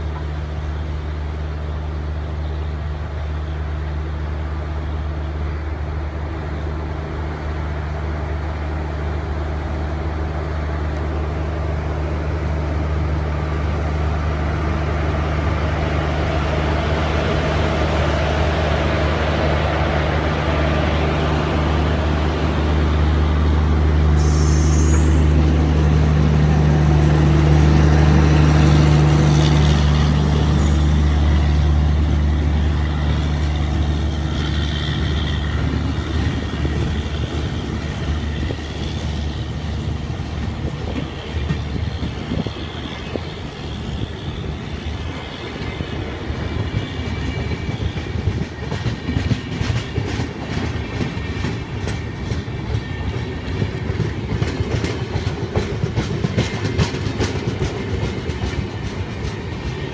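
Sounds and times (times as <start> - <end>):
train passing at speed: 0.0 - 59.9
wheels rumbling on rails: 0.0 - 59.9.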